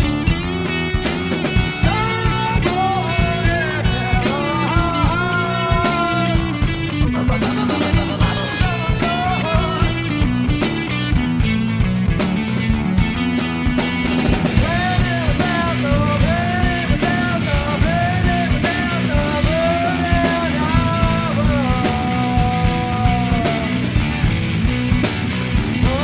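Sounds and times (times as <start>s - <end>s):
lead melody: 0.0s - 25.9s
rock band playing: 0.0s - 26.0s.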